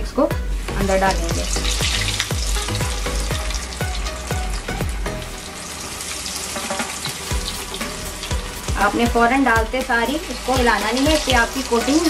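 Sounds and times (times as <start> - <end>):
background music with beat: 0.0 - 5.5, 7.2 - 12.0
food deep-frying in oil: 0.1 - 12.0.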